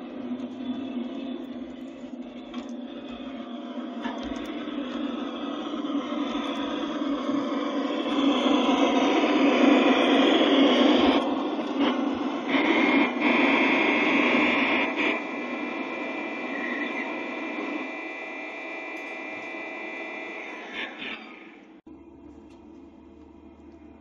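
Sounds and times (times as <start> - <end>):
model train rolling on track: 0.0 - 21.8.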